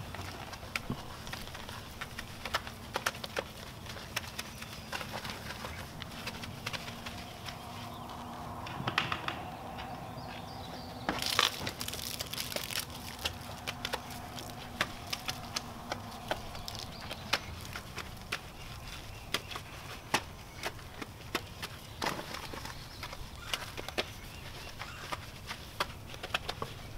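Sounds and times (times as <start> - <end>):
sharp clicks and crackles: 0.0 - 10.0, 11.1 - 26.9.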